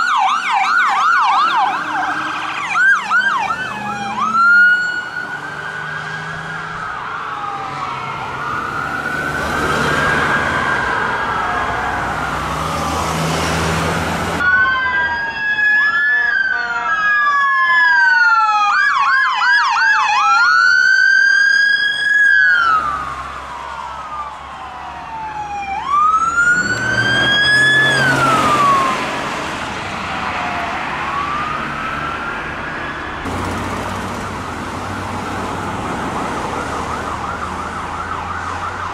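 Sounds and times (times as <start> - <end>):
siren yelp: 0.0 - 13.6, 14.4 - 33.3, 35.1 - 38.9
sirens wailing: 0.0 - 38.9
vehicles passing: 0.0 - 38.9.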